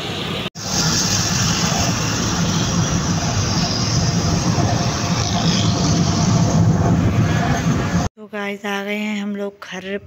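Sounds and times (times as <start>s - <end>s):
road and engine noise: 0.0s - 8.1s.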